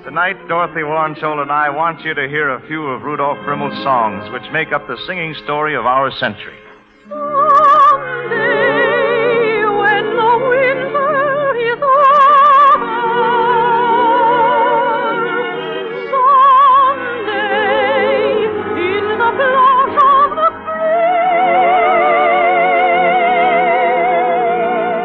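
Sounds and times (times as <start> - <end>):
musical accompaniment: 0.0 - 25.0
soprano singing operatic style: 0.0 - 25.0.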